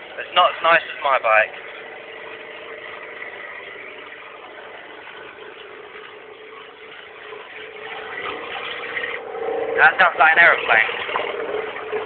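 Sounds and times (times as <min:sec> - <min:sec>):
loud unsilenced engine running: 0:00.0 - 0:12.0.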